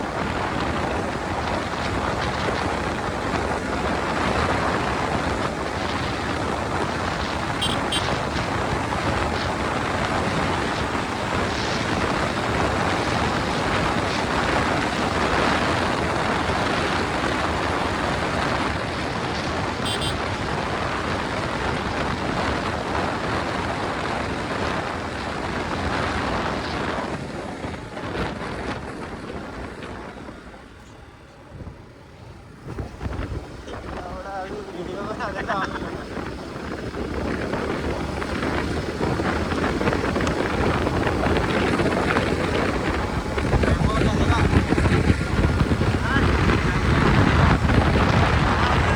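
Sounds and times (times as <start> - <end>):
motorcycle engine: 0.0 - 48.9
wind rushing over microphone: 0.0 - 48.9.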